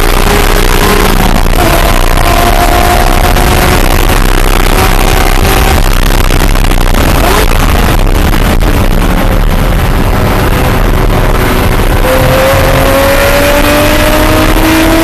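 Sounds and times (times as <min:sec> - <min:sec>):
car engine revving: 0:00.0 - 0:15.0
wind and road noise: 0:00.0 - 0:15.0.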